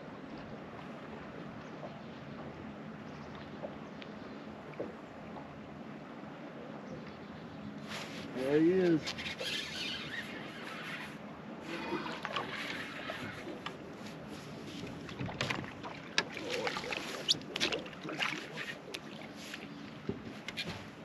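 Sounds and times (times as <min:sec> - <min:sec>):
water against boat hull: 0:00.0 - 0:21.0
wind: 0:00.0 - 0:21.0.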